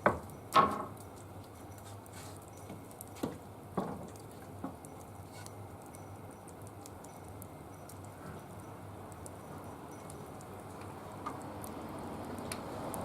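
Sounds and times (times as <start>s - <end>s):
small wood fire crackling: 0.0s - 13.0s.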